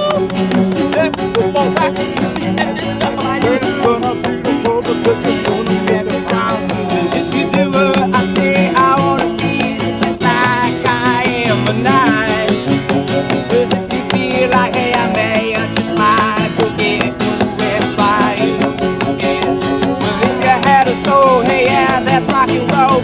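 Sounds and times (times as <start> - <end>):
song with steady beat and singing: 0.0 - 23.0.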